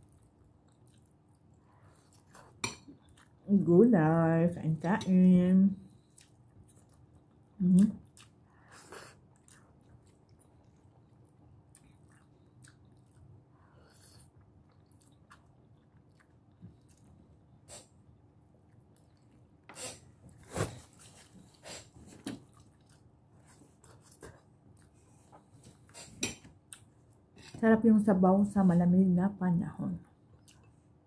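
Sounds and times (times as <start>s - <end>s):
person chewing: 0.0s - 3.4s, 6.0s - 27.6s.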